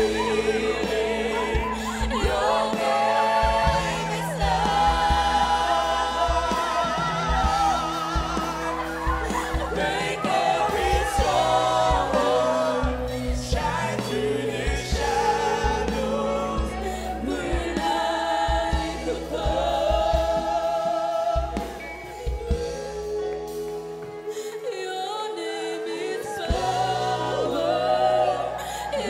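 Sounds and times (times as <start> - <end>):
mixed choir singing: 0.0 - 29.0.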